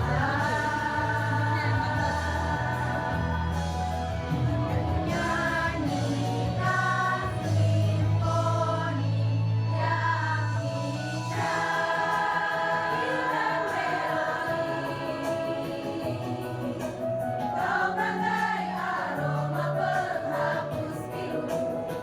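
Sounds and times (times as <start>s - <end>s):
choir singing in parts: 0.0s - 22.0s.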